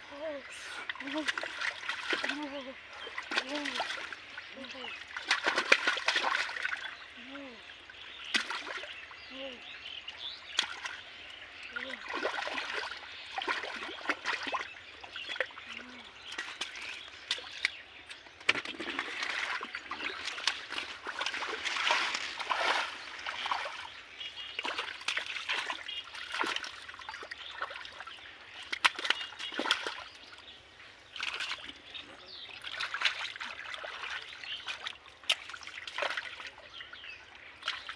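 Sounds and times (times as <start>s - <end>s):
hands splashing in muddy water: 0.8s - 6.9s, 8.2s - 8.9s, 10.5s - 11.0s, 11.7s - 30.4s, 31.1s - 36.7s.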